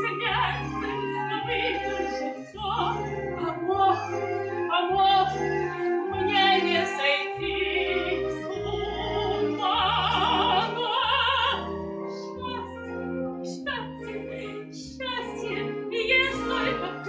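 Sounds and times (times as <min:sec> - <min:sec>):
instrumental backing with bass line: 0:00.0 - 0:17.0
woman singing operatically: 0:00.0 - 0:17.0.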